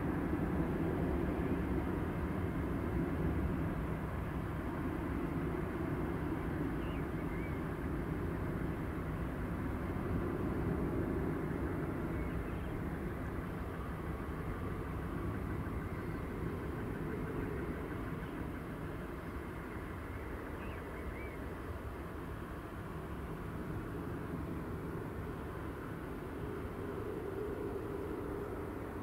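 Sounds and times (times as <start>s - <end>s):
jet airliner rumble: 0.0s - 29.0s
road traffic: 0.0s - 29.0s.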